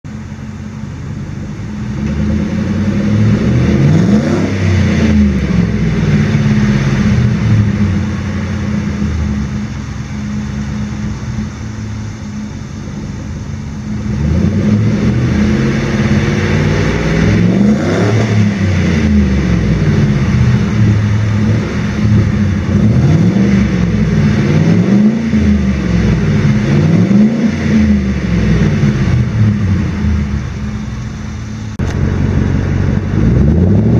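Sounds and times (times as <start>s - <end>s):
truck engine idling and revving: 0.0s - 33.9s.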